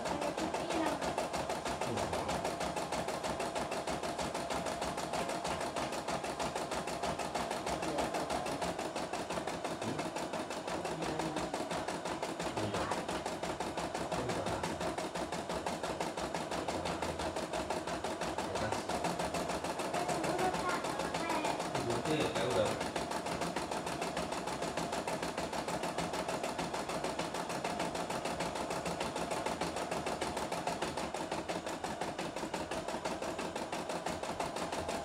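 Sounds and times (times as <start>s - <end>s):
embroidery machine stitching: 0.0s - 35.0s.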